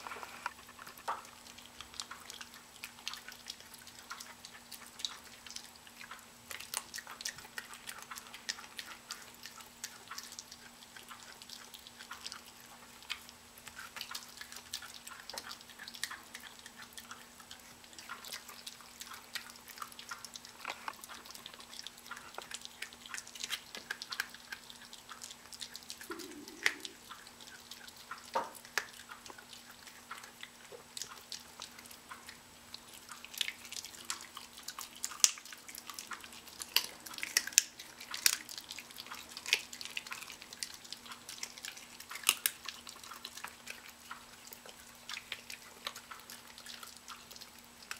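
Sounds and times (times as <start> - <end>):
dog chewing and gnawing: 0.0 - 47.9.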